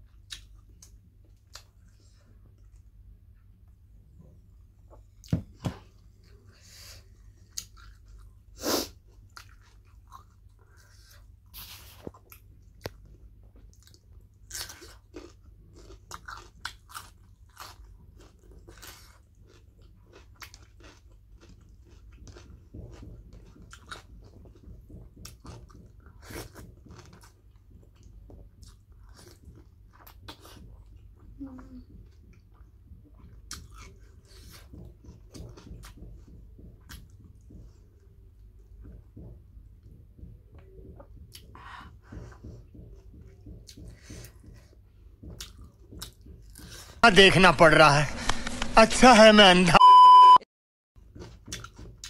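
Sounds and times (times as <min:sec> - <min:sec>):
crunchy chewing of food: 0:04.9 - 0:47.0, 0:51.0 - 0:52.0.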